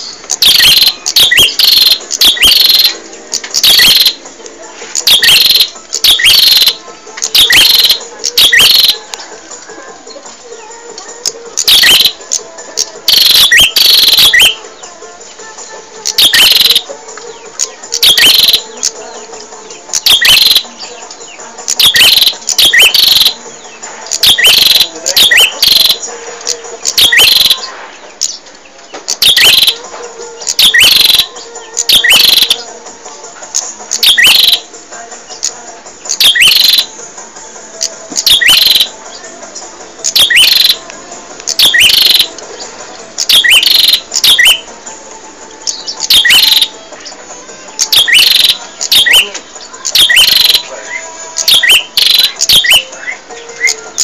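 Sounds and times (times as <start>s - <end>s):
songbird high chirps: 0.0s - 4.3s, 4.9s - 32.8s, 33.5s - 34.7s, 35.3s - 36.9s, 37.8s - 44.7s, 45.6s - 47.2s, 47.8s - 54.0s.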